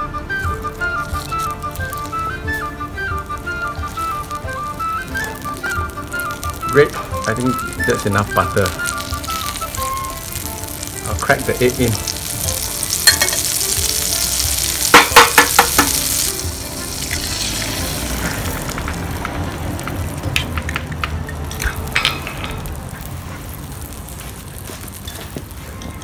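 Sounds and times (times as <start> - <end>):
butter sizzling in a pan: 0.3 - 26.0
egg crackling in hot butter: 0.3 - 26.0.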